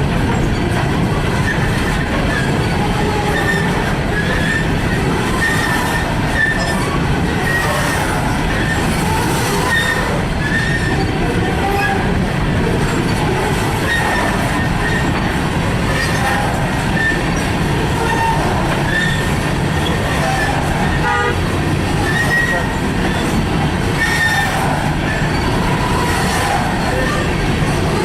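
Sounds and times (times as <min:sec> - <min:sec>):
freight train rumble: 0:00.0 - 0:28.0
train wheel squeals: 0:00.3 - 0:12.0, 0:12.8 - 0:15.3, 0:15.9 - 0:21.4, 0:22.0 - 0:27.4.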